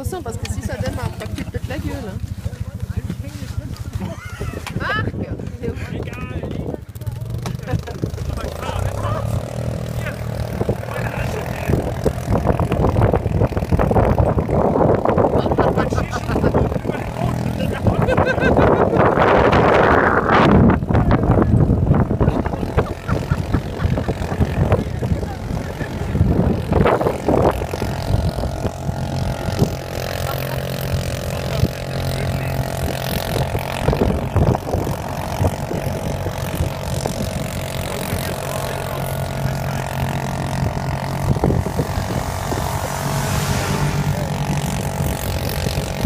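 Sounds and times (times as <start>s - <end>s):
snowmobile engine running: 0.0s - 46.0s.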